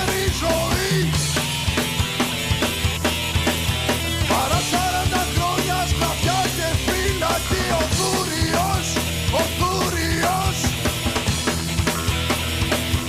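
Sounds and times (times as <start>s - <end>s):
rock song: 0.0s - 13.0s.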